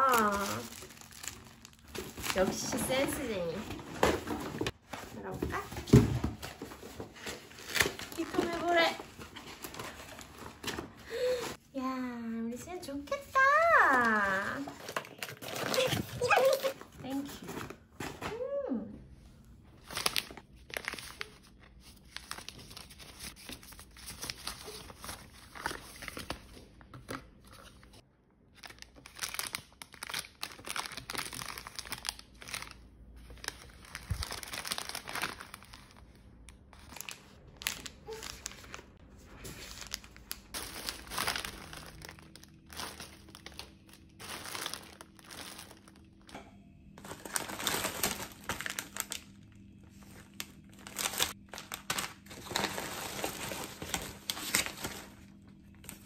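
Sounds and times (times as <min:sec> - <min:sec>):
packaging crinkling and rustling: 0:00.0 - 0:11.6, 0:13.2 - 0:18.3, 0:19.8 - 0:46.3, 0:47.0 - 0:56.0.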